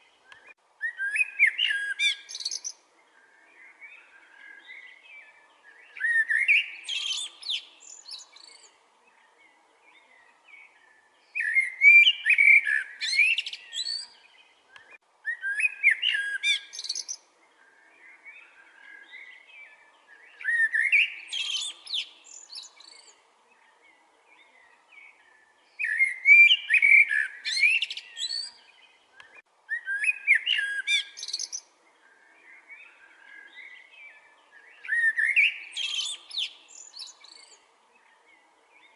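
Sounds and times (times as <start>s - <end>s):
faint bird twittering: 0.0s - 38.9s
songbird singing: 0.0s - 38.9s.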